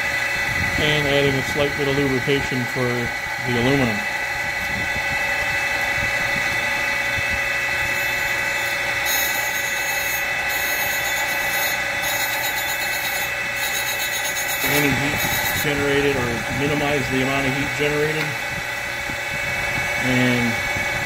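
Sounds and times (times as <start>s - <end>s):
grinder whining on metal: 0.0s - 21.0s.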